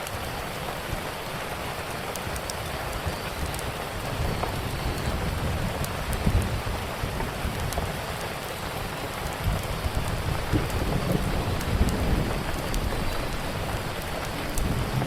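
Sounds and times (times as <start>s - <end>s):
rain falling: 0.0s - 15.0s
wood fire crackling: 0.0s - 15.0s.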